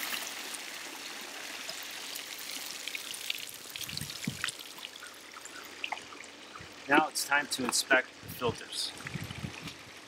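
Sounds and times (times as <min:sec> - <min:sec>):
water pouring and splashing: 0:00.0 - 0:08.0, 0:08.9 - 0:10.0
water trickling and dripping: 0:00.0 - 0:10.0.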